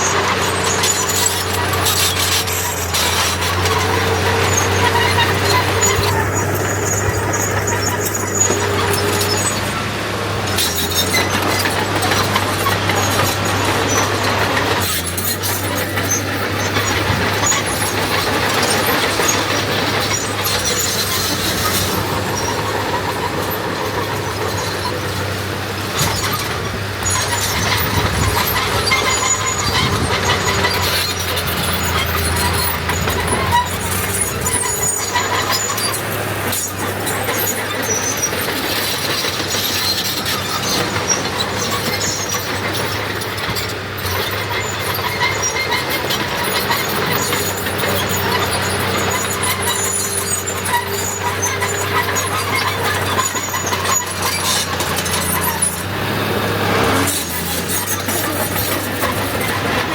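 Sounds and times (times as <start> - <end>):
diesel engine drone: 0.0 - 59.9
metal squealing and clanking: 0.0 - 59.9.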